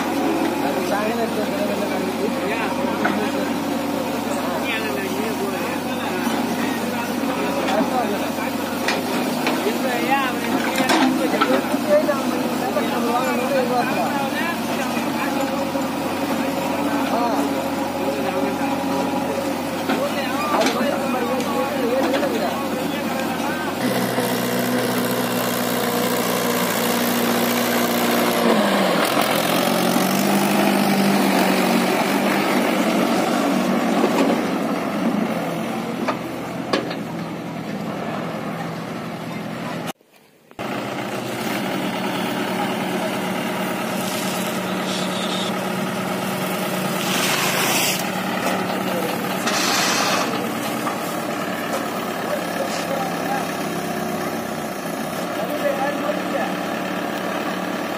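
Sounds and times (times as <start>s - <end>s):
tractor diesel engine under load: 0.0s - 40.0s, 40.6s - 57.9s.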